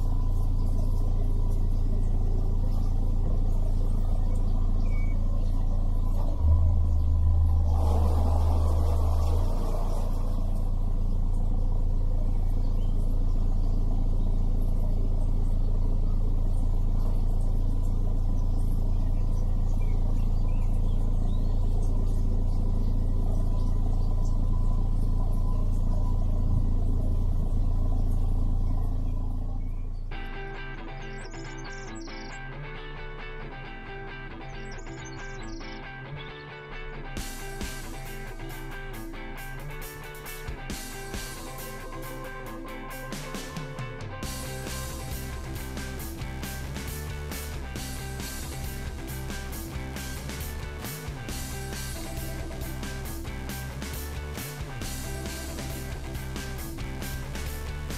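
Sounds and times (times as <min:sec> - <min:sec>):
boat engine droning: 0:00.0 - 0:32.3, 0:37.2 - 0:57.9.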